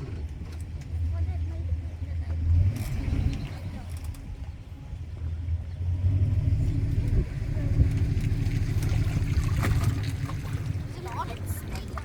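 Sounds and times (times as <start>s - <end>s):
vehicle engine running low: 0.0s - 12.0s.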